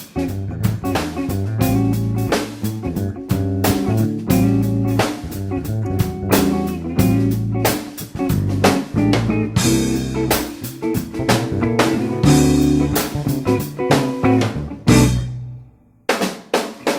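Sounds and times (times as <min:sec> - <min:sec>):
rock blues music: 0:00.0 - 0:16.2.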